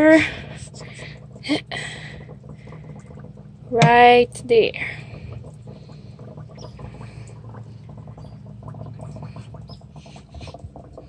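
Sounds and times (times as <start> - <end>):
steady low hum: 0.0 - 11.0
water gurgling and bubbling: 0.0 - 11.0
small crackling pops: 0.5 - 4.2, 4.9 - 11.0.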